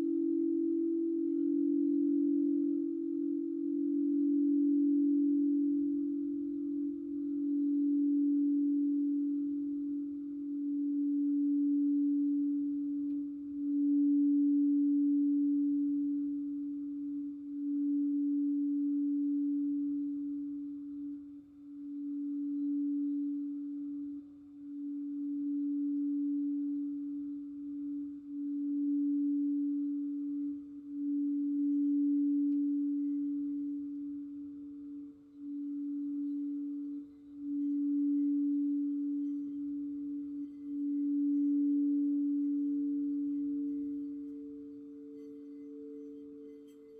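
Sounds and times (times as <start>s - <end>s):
higher singing bowl tone: 0.0s - 46.9s
singing bowl low tone: 0.0s - 46.9s.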